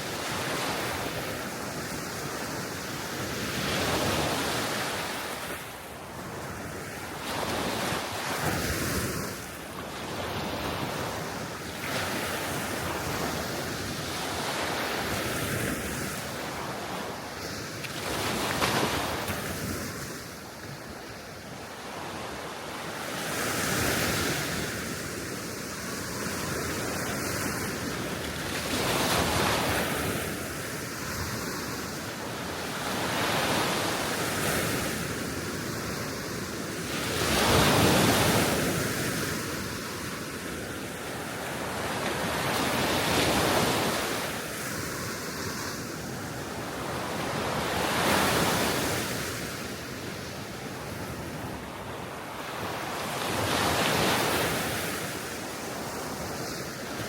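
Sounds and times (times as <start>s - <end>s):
small waves breaking on shore: 0.0s - 57.0s
steady wind: 0.0s - 57.0s.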